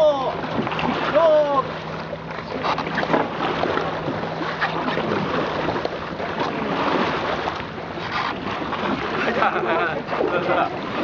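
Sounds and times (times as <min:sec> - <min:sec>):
short water splashes: 0:00.0 - 0:11.0
water noise: 0:00.0 - 0:11.0.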